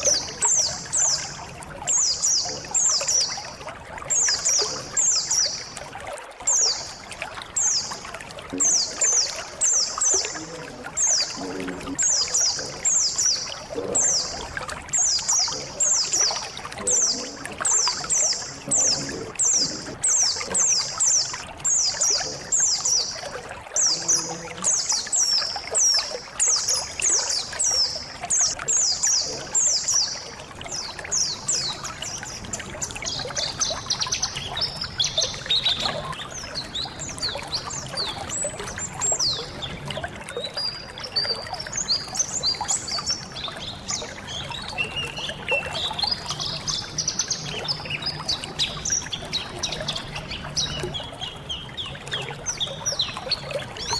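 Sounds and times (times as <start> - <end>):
birds twittering: 0.0 - 53.9
running water: 0.0 - 53.9.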